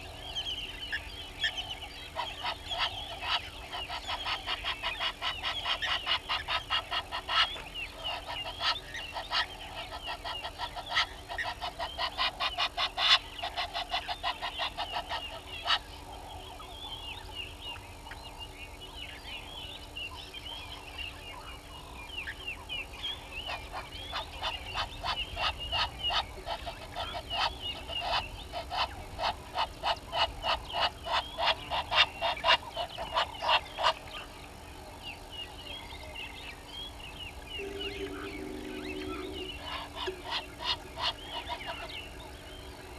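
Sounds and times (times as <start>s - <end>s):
guineafowl cackling: 0.0s - 18.2s, 23.0s - 34.4s, 37.6s - 42.9s
soft chirping birdsong: 0.0s - 42.9s.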